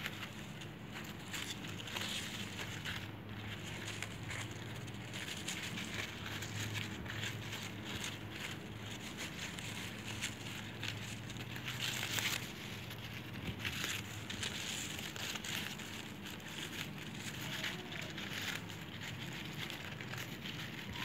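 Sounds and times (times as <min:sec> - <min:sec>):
crepe paper crinkling: 0:00.0 - 0:21.0
low steady hum: 0:00.0 - 0:21.0.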